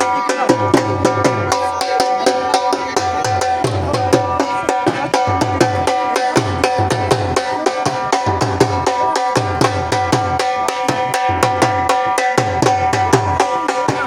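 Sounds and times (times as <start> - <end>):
fast drumming: 0.0 - 14.0.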